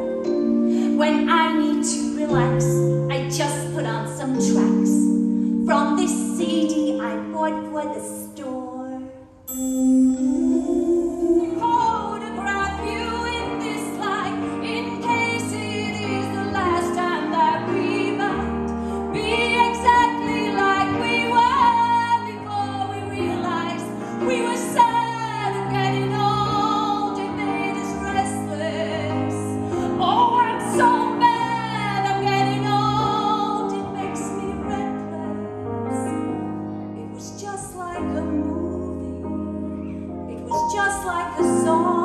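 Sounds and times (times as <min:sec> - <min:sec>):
instrumental accompaniment: 0:00.0 - 0:42.0
woman singing opera: 0:00.8 - 0:05.1, 0:05.7 - 0:09.2, 0:09.9 - 0:36.3, 0:37.0 - 0:39.4, 0:40.3 - 0:42.0.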